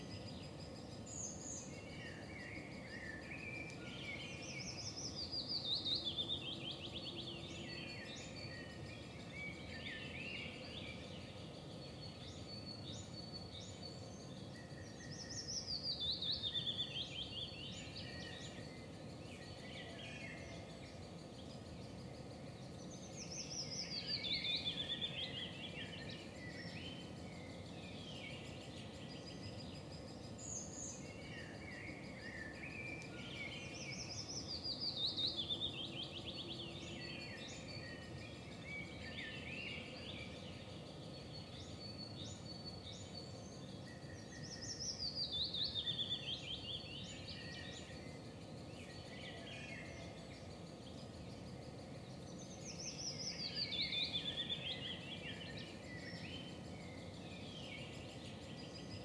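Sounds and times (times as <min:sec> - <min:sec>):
faint bird chirps: 0:00.0 - 0:59.0
outdoor background noise: 0:00.0 - 0:59.0
songbird singing: 0:00.0 - 0:59.0.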